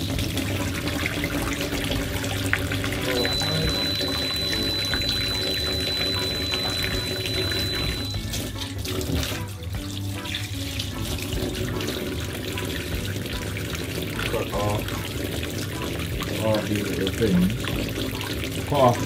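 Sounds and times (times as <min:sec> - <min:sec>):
tap running into sink: 0:00.0 - 0:18.9.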